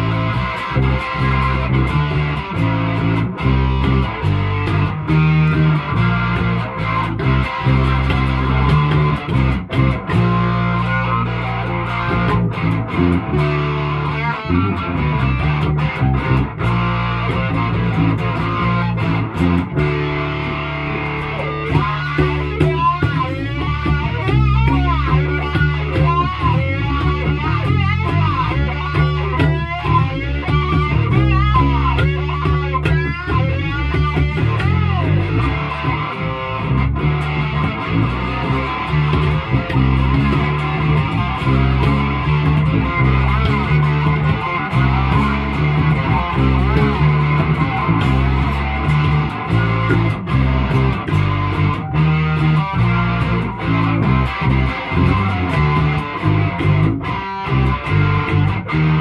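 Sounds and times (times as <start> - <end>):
electric guitar and bass rock: 0.0 - 59.0
guitar line with bent notes: 0.0 - 59.0.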